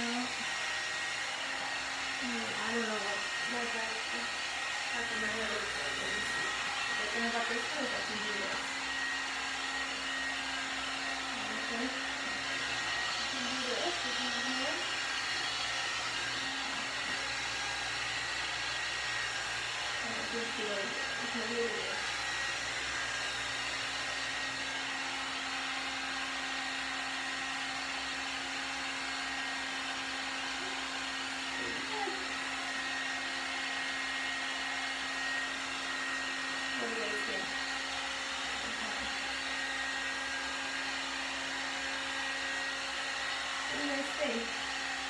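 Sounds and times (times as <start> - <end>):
hair dryer running: 0.0 - 45.0.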